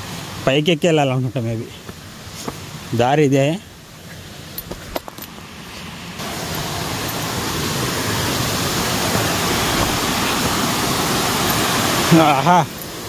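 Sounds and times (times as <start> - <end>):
waterfall rushing: 0.0 - 4.6, 5.3 - 13.0.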